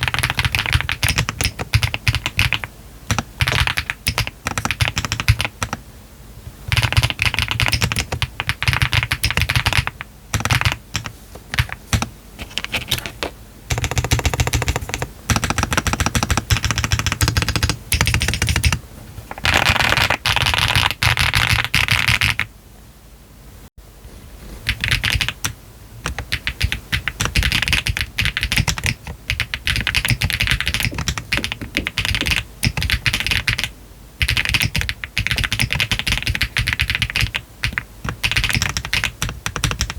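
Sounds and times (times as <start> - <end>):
mechanical keyboard typing: 0.0 - 5.8, 6.7 - 18.8, 19.4 - 22.5, 24.6 - 39.9.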